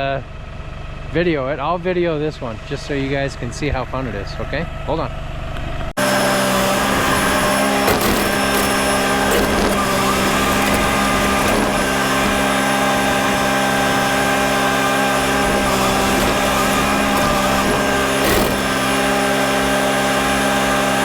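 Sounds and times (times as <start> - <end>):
motor humming steadily: 0.0 - 21.0.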